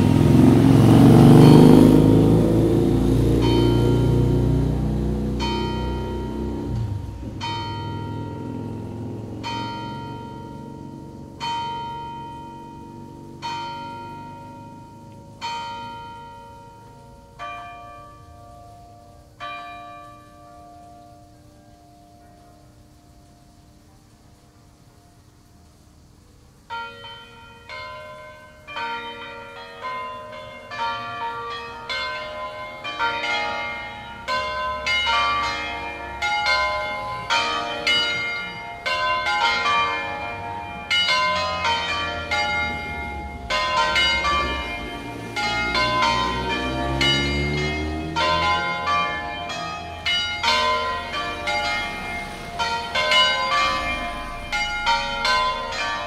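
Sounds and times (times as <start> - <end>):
church bells ringing: 0.0 - 25.3, 26.7 - 56.0.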